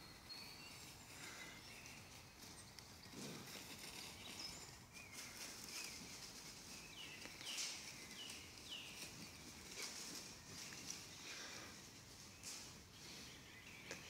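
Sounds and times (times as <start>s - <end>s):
faint forest ambience: 0.0s - 14.0s.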